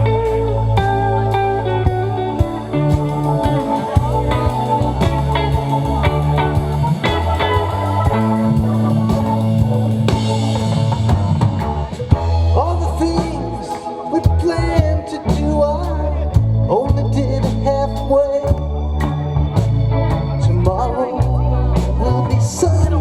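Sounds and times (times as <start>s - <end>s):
bass line: 0.0s - 23.0s
lead guitar: 0.0s - 23.0s.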